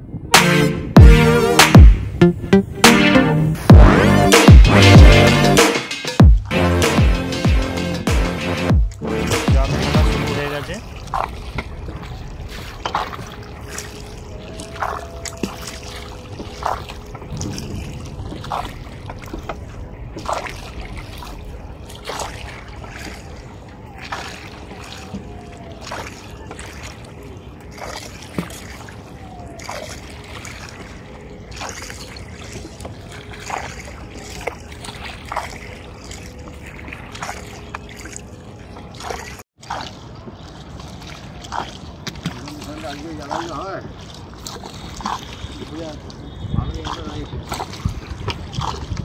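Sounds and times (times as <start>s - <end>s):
oar splashing water: 3.6s - 49.0s.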